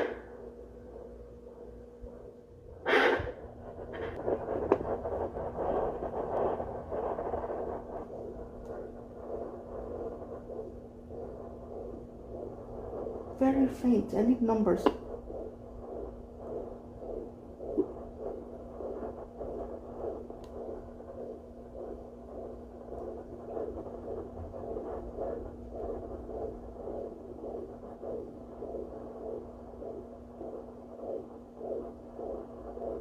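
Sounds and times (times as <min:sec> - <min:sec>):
rhythmic whooshing doppler pulse: 0:00.0 - 0:33.0
steady hum: 0:00.0 - 0:33.0.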